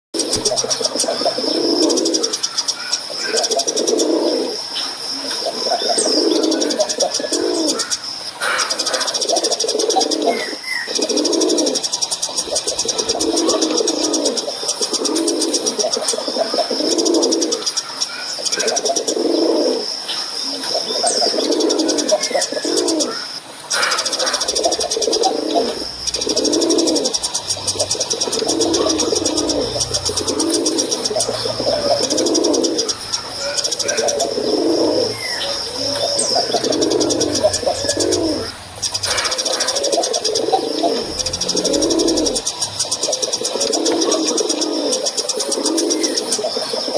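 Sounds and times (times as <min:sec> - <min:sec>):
pigeon cooing: 0:00.2 - 0:46.9.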